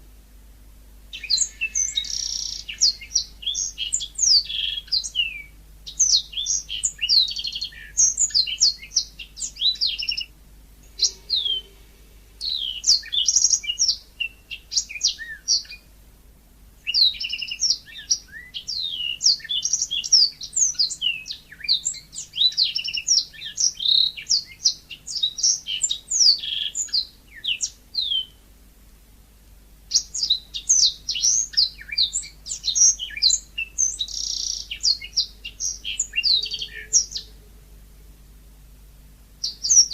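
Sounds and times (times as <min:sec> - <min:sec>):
canary singing chirps and trills: 0:01.1 - 0:15.9, 0:16.8 - 0:28.4, 0:29.9 - 0:37.8, 0:39.4 - 0:39.9.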